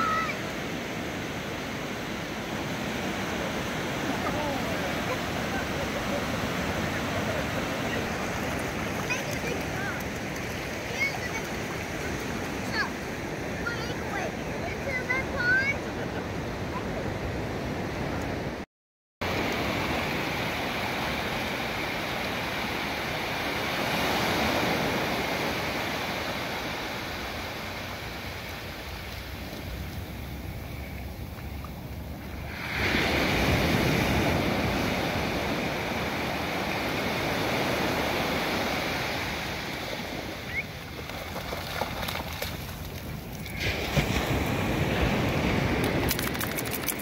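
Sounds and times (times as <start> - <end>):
small waves washing up beach: 0.0 - 18.6, 19.2 - 47.0.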